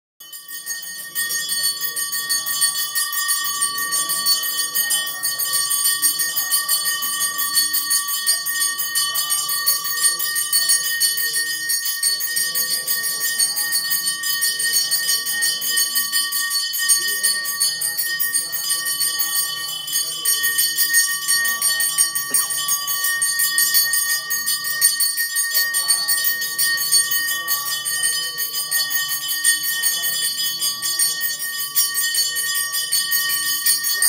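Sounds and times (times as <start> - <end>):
brass bell ringing rapidly: 0.2 - 34.0
murmur of voices: 0.4 - 34.0.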